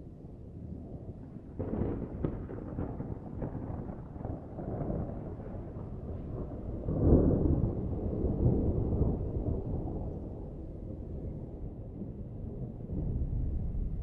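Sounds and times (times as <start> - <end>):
rolling thunder: 0.6 - 14.0.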